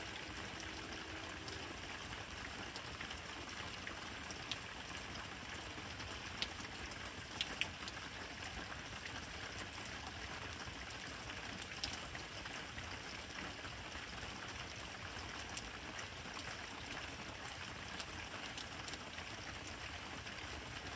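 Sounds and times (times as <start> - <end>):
steady rain hissing: 0.0 - 20.9.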